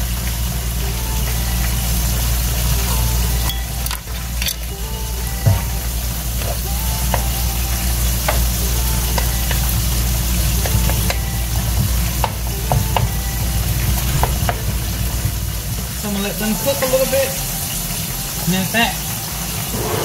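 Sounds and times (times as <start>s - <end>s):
low hum: 0.0s - 16.6s, 19.0s - 20.0s
vegetables sizzling in oil: 0.0s - 20.0s.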